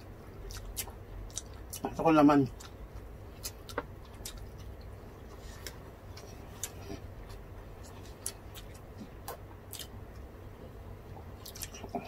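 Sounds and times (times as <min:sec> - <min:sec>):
people chewing with mouth clicks: 0:00.0 - 0:10.3, 0:11.1 - 0:12.0
faint low hum: 0:00.0 - 0:12.0.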